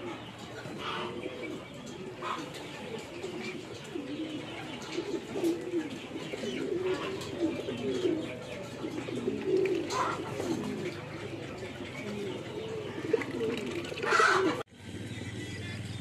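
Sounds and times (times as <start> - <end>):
farmyard birds calling: 0.0 - 16.0.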